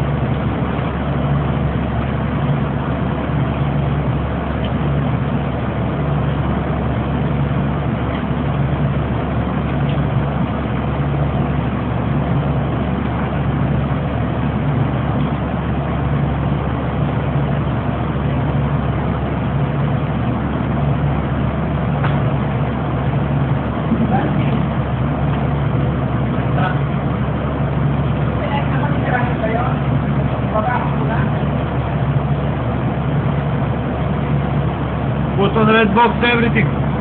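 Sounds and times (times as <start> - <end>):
machinery drone with low hum: 0.0 - 37.0.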